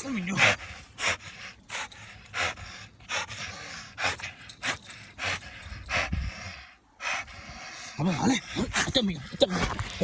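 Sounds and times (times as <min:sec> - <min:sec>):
dog panting hard: 0:00.0 - 0:10.0.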